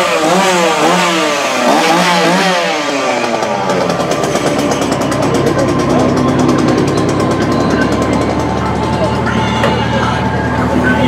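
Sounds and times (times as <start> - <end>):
small engine revving and rattling: 0.0 - 10.2.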